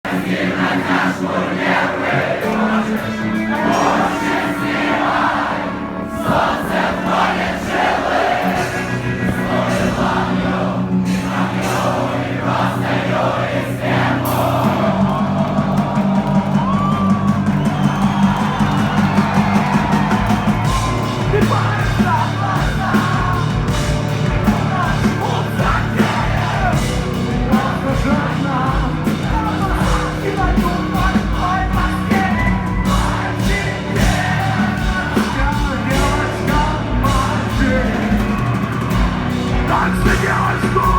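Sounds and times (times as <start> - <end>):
drums: 0.0 - 40.9
person singing: 0.1 - 13.3, 19.4 - 40.9
distorted guitars: 0.1 - 40.9.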